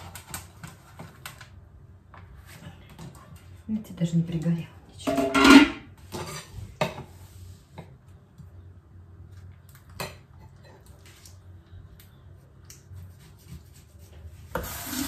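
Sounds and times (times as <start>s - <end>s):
low steady hum: 0.2s - 14.6s.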